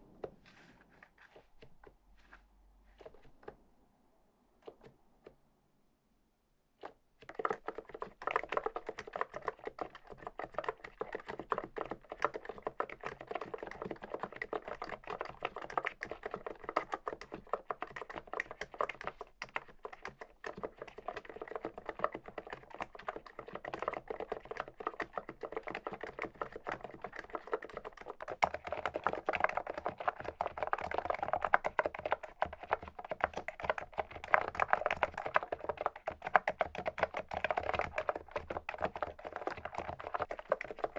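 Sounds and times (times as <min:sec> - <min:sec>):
fast typing key clacks: 0:07.3 - 0:40.9.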